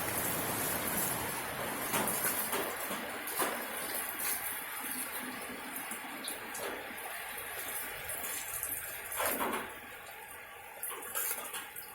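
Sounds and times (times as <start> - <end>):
steady rain falling: 0.0 - 11.9
water drips and splashes: 0.0 - 11.9.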